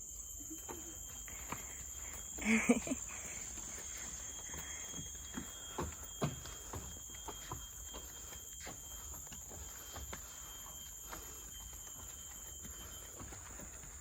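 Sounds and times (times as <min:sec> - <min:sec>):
crickets chirring: 0:00.0 - 0:14.0
soft footsteps: 0:00.4 - 0:14.0.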